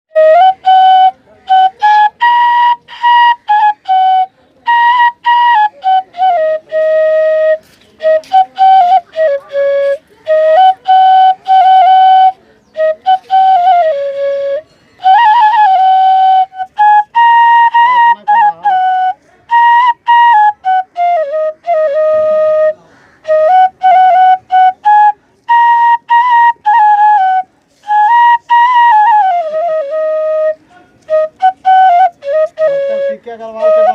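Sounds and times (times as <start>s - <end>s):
bamboo flute melody: 0.1s - 33.9s.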